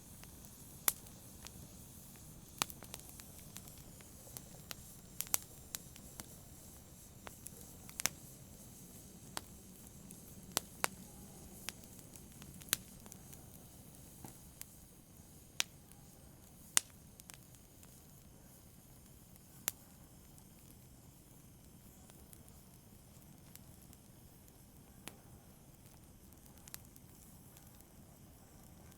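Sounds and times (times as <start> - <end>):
wood crackling and popping: 0.0 - 15.0, 16.5 - 18.2, 19.0 - 28.9
flames hissing: 0.0 - 28.9.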